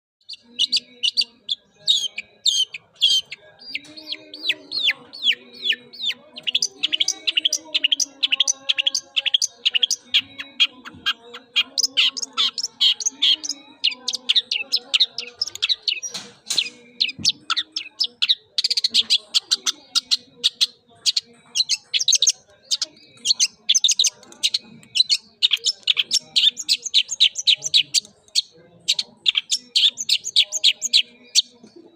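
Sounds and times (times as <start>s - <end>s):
bird chirping and twittering: 0.2s - 31.8s.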